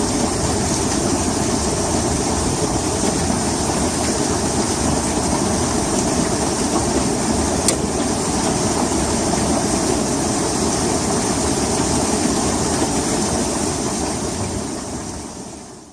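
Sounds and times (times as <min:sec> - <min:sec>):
heavy rain: 0:00.0 - 0:15.9.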